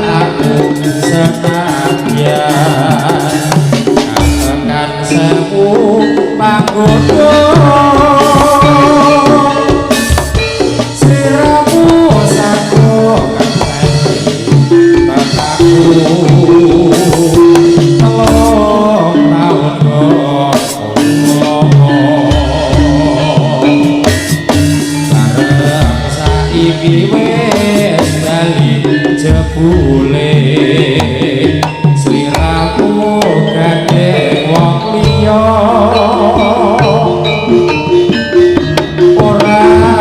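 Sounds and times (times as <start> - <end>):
drums keeping a steady beat: 0.0 - 40.0
held melody line: 0.0 - 40.0.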